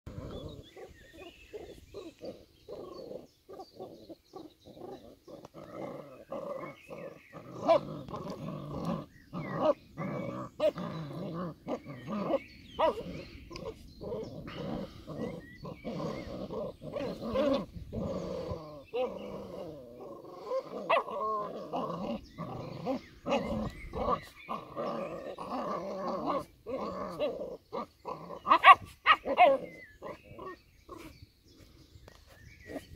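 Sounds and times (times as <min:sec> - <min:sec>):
puppies growling and barking: 0:00.1 - 0:31.2.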